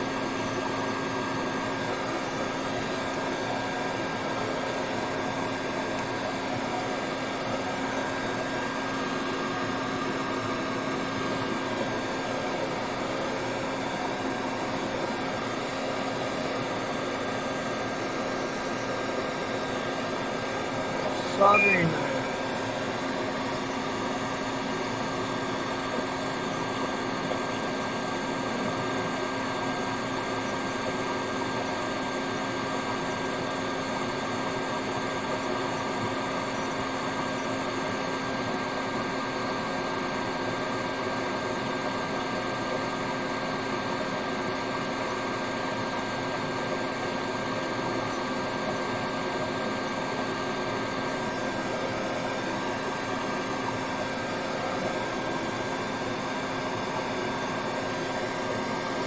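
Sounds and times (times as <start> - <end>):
faint constant whine: 0.0 - 59.0
fan hum and hiss: 0.0 - 59.0.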